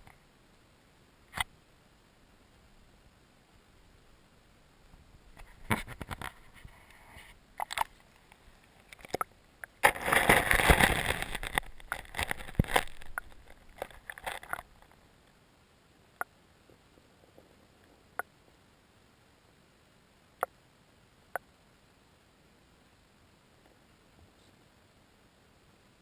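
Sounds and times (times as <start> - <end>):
faint underwater background: 0.0 - 26.0.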